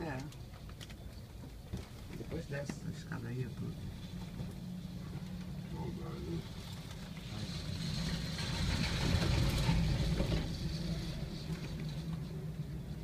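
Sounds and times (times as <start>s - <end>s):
cable car mechanical hum: 0.0s - 13.0s.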